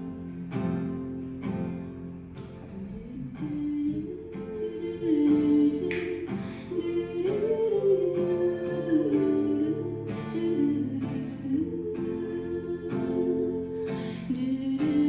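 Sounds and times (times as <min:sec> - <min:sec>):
acoustic guitar: 0:00.0 - 0:15.0
person singing: 0:02.8 - 0:15.0.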